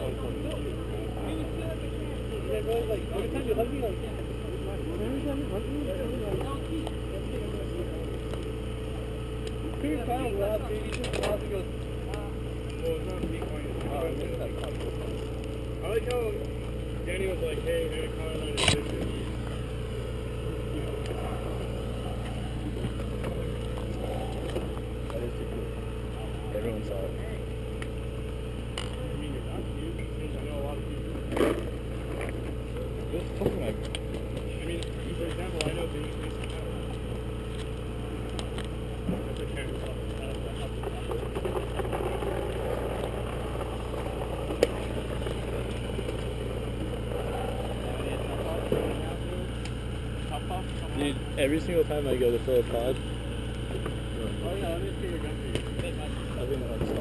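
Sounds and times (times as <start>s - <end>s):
low mechanical drone: 0.0s - 57.0s.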